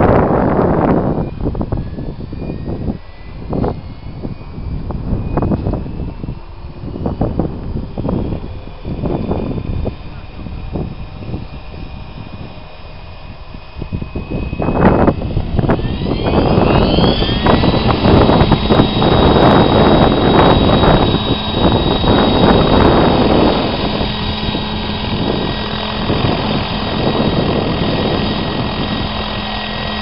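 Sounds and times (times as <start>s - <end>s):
helicopter motor and rotor whine: 0.0s - 30.0s
rotor air rushing: 0.0s - 30.0s.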